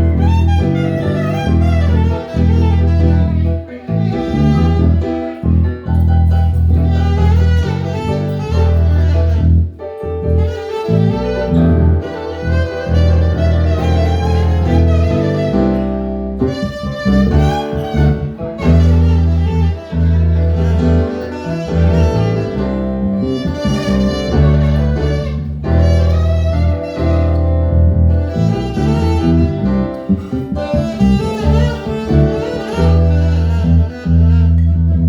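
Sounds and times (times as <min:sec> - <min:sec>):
deep held bass notes: 0:00.0 - 0:35.0
violin melody: 0:00.0 - 0:35.0.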